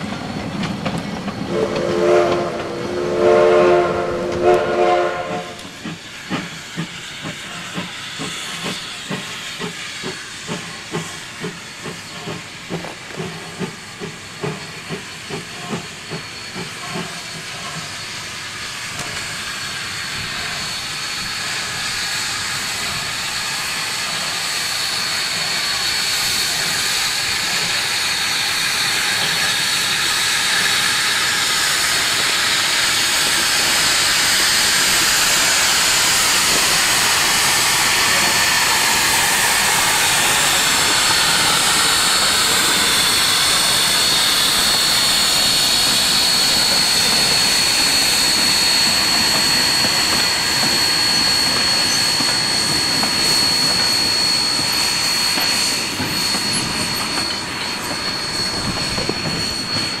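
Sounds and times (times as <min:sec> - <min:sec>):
steam locomotive hissing: 0:00.0 - 1:00.0.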